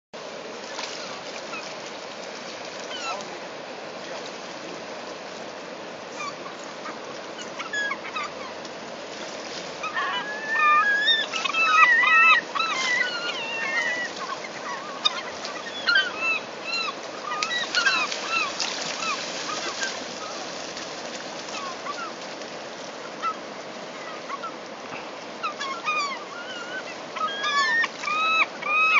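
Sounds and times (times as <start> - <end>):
gulls calling: 0.5 - 28.9.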